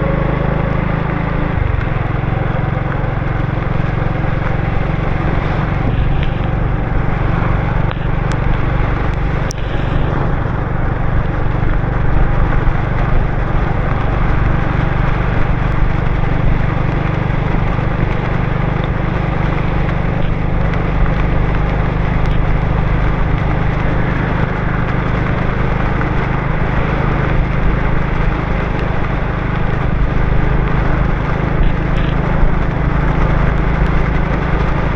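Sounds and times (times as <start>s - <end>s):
motorbike engine humming: 0.0s - 34.9s
tyre and road noise: 0.0s - 34.9s.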